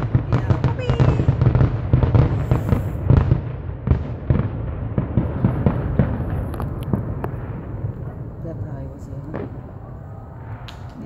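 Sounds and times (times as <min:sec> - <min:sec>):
fireworks booming and crackling: 0:00.0 - 0:11.0
low rumble: 0:00.0 - 0:11.0.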